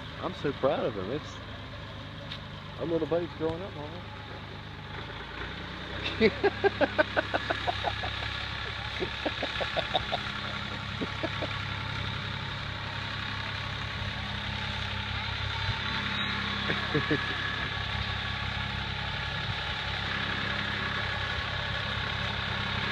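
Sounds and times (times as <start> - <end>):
tractor engine droning: 0.0 - 22.9.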